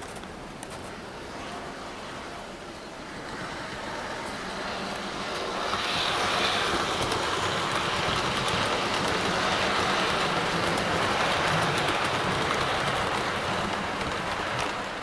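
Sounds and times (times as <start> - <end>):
model train wheels rumbling on rail: 0.0 - 15.0.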